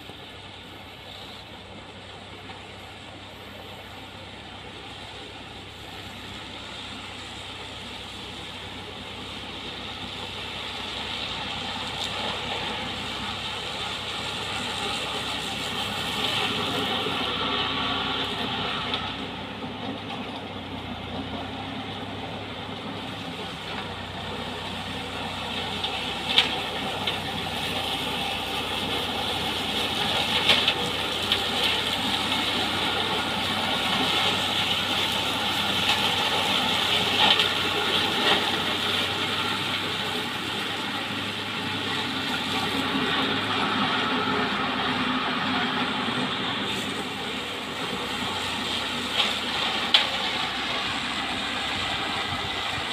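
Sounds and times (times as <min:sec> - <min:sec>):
mower cutting crop: 0:00.0 - 0:02.7, 0:03.3 - 0:52.9
tractor running under load: 0:00.0 - 0:52.9.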